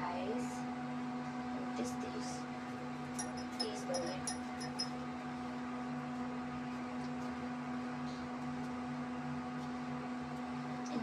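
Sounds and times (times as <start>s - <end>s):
electrical motor hum: 0.0s - 11.0s.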